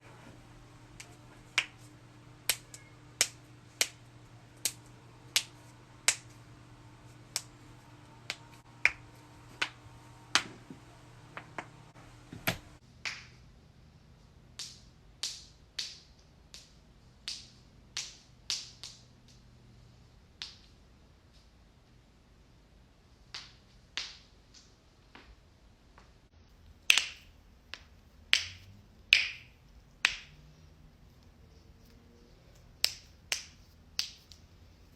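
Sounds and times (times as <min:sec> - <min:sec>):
background hum: 0:00.0 - 0:34.9.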